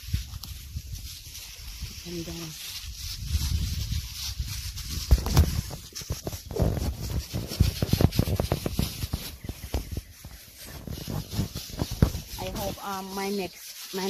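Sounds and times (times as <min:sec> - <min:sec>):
footsteps in rubber boots on soil: 0:00.0 - 0:14.0.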